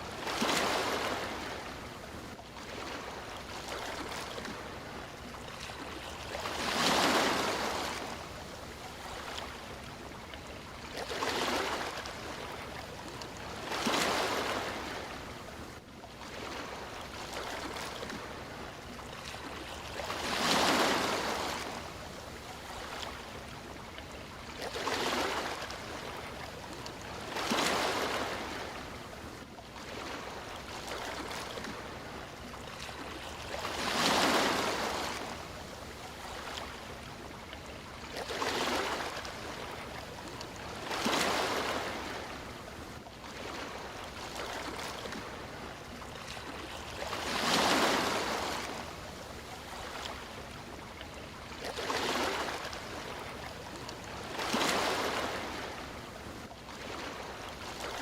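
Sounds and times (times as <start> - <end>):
low wash of water: 0.0 - 58.0
sea waves breaking: 0.0 - 58.0.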